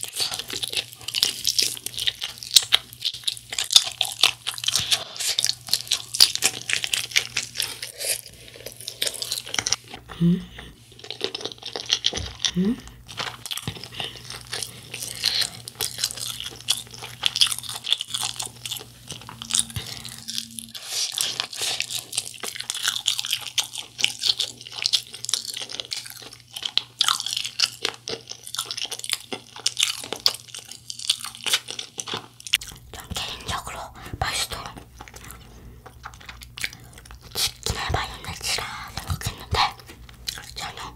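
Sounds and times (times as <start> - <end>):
crunching fried chicken: 0.0 - 10.0, 10.9 - 33.4, 34.6 - 40.8
wet chewing: 0.0 - 40.9.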